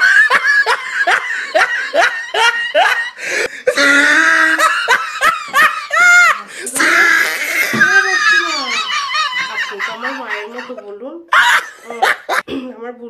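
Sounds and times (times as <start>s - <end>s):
woman laughing: 0.0s - 12.5s.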